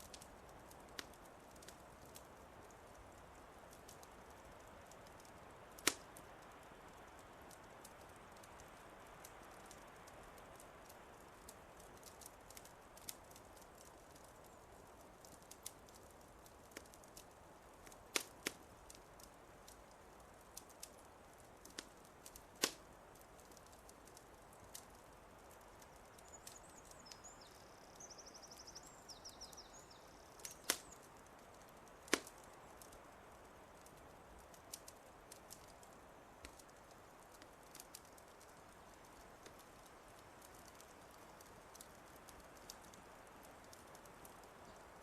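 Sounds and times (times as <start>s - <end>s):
fireplace crackling and popping: 0.0s - 45.0s
soft steady hiss: 0.0s - 45.0s.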